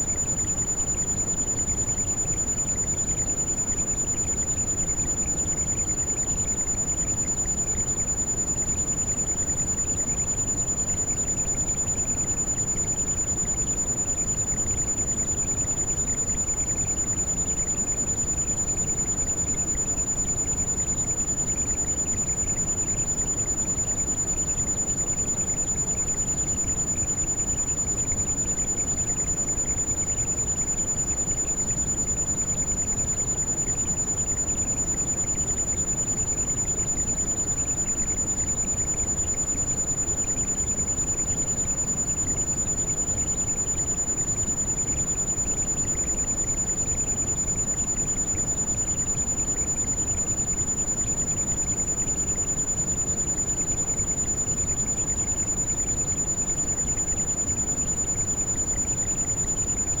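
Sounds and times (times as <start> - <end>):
constant high-pitched tone: 0.0 - 60.0.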